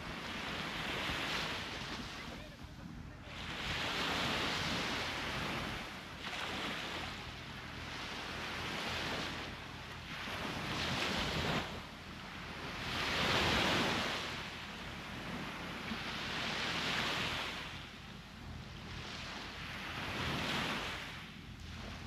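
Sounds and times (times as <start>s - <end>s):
sea waves washing ashore: 0.0s - 22.0s.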